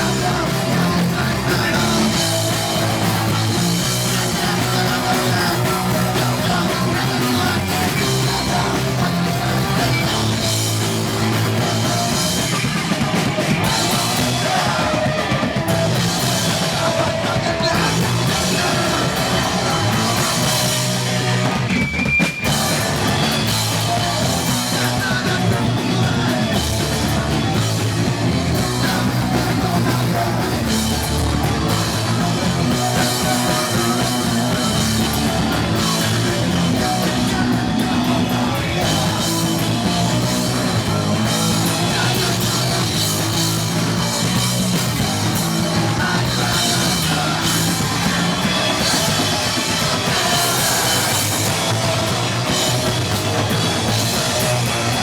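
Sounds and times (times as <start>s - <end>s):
person singing: 0.0s - 21.8s, 22.4s - 55.0s
bass guitar: 0.0s - 55.0s
distorted guitars: 0.0s - 55.0s
drum kit: 0.0s - 55.0s.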